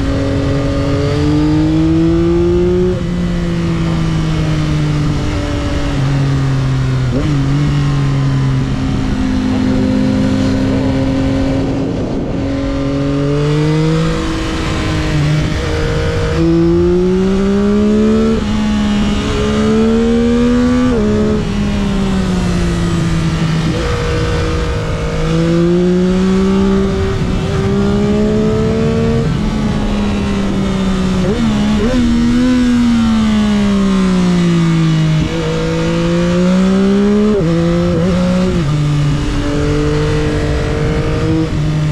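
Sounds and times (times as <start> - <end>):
motorcycle engine accelerating: 0.0 - 41.9
wind rush: 0.0 - 41.9.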